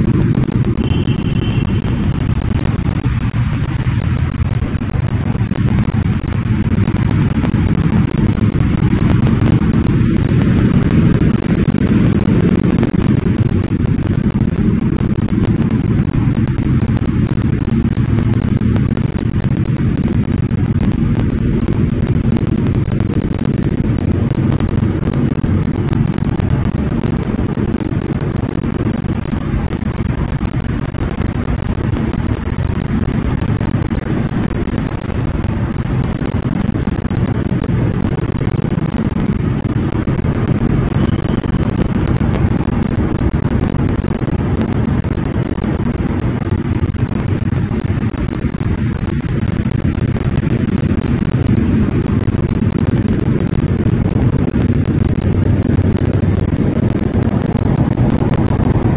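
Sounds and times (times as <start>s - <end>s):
motorcycle engine rumble: 0.0s - 58.9s
wind on microphone: 0.0s - 58.9s.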